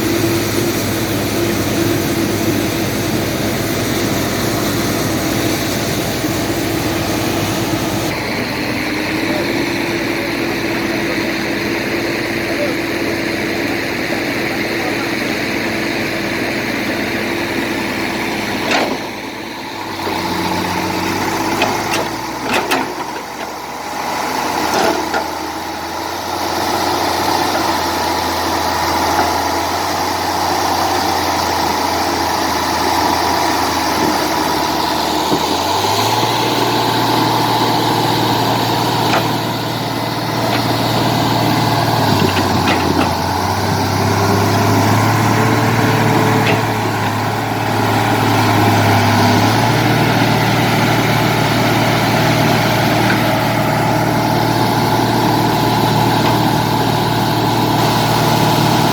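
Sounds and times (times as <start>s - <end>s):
heavy diesel engines working: 0.0s - 58.9s.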